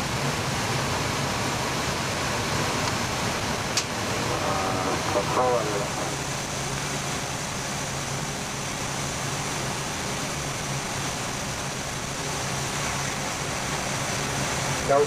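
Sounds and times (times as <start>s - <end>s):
airflow and air conditioning rush: 0.0s - 15.0s
low steady hum: 0.0s - 15.0s.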